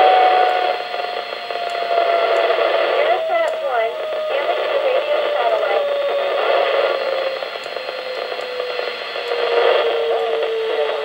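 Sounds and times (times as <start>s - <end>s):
radio signal hiss: 0.0s - 11.0s
steady radio tone: 0.0s - 11.0s.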